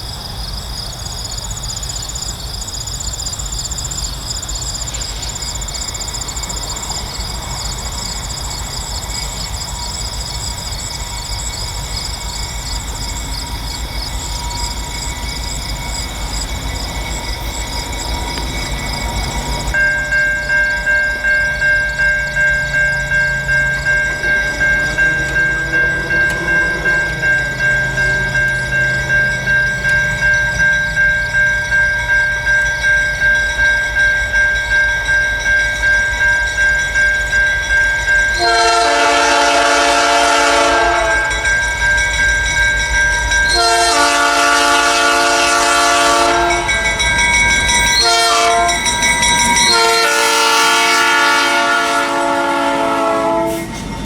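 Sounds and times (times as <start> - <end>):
freight train rumble: 0.0 - 54.0
insects chirping: 0.0 - 54.0
railroad crossing bell ringing: 0.0 - 54.0.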